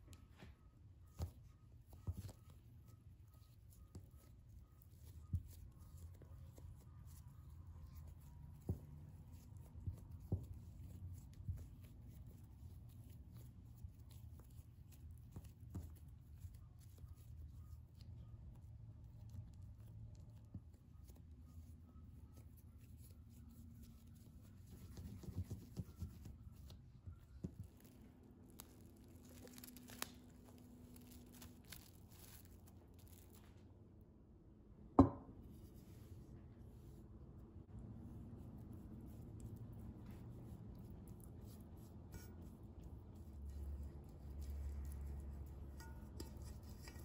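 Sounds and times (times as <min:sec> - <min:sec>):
hands working bread dough: 0:00.0 - 0:47.0
low steady hum: 0:00.0 - 0:47.0.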